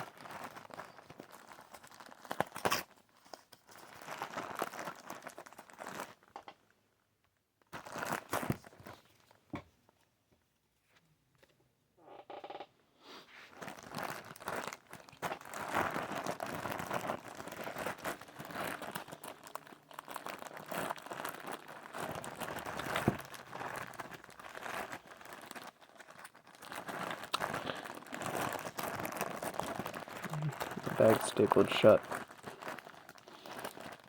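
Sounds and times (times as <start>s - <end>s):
plastic bag crinkling: 0.0s - 6.6s, 7.6s - 9.4s, 13.4s - 34.0s.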